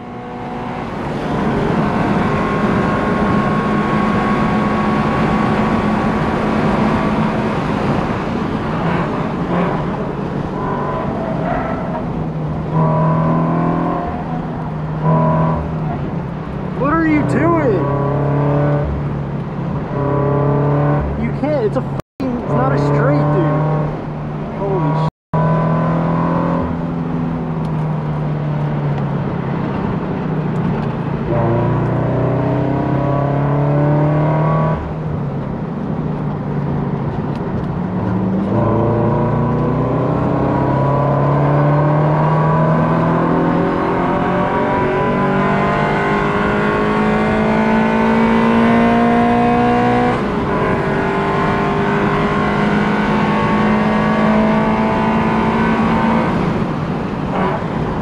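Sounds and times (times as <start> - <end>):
car engine revving and shifting: 0.0 - 58.0.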